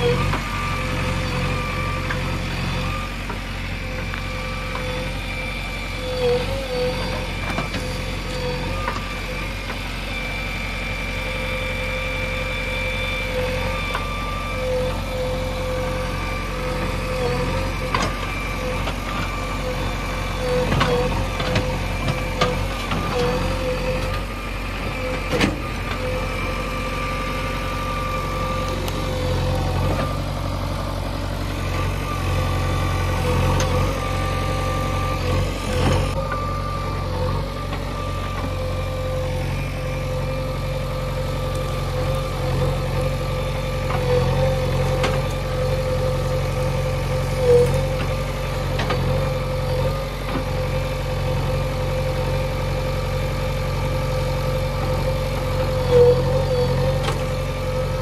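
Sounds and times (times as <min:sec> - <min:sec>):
diesel engine running under load: 0:00.0 - 0:58.0
steady whine: 0:00.0 - 0:58.0.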